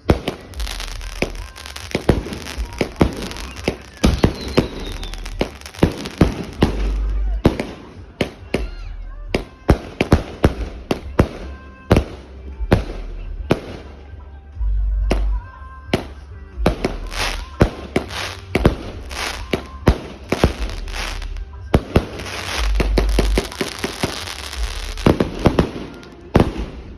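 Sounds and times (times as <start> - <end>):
firework crackle: 0.0 - 14.1, 16.0 - 26.9
firework bangs: 0.0 - 14.2, 15.1 - 26.9.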